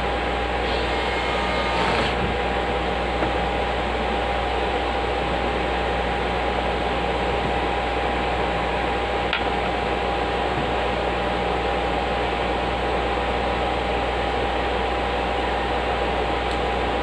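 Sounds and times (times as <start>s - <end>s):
electric fans whirring: 0.0s - 17.0s.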